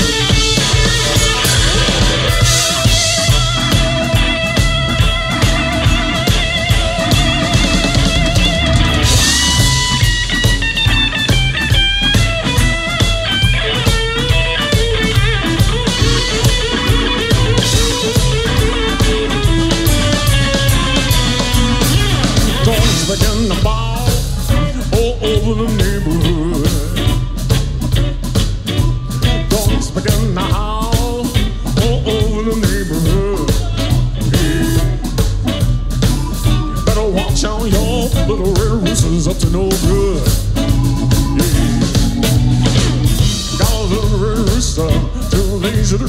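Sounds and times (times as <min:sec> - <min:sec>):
blues band playing: 0:00.0 - 0:46.0
electric guitar lead: 0:00.0 - 0:46.0.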